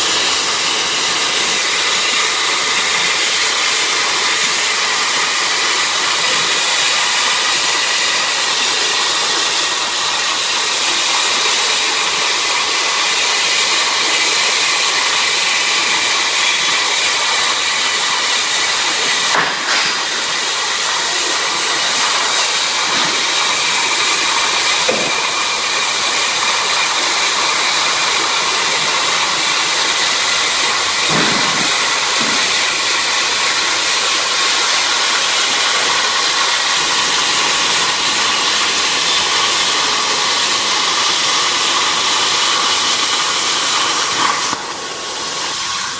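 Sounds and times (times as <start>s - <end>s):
plasma cutter hissing: 0.0s - 45.9s.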